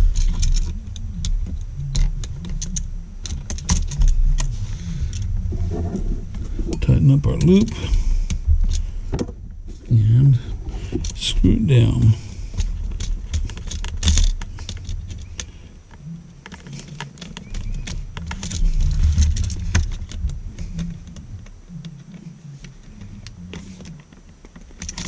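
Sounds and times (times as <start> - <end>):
small metal clicks and rattles: 0.0 - 9.3, 10.7 - 25.0.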